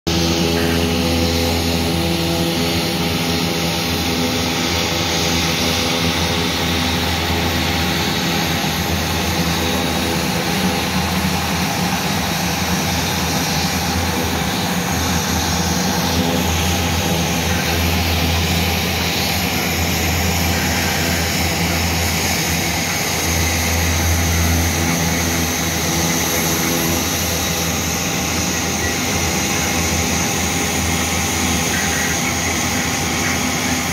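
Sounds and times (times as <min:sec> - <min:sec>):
low propeller hum: 0:00.1 - 0:33.9.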